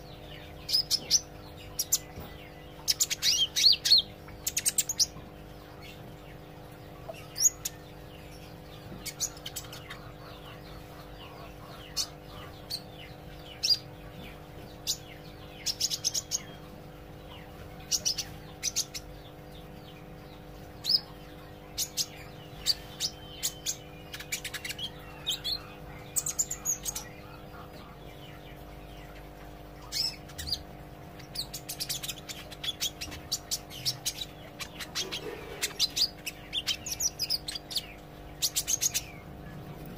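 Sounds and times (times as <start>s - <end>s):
bird chirping: 0.0s - 39.9s
steady low hum: 0.0s - 39.9s.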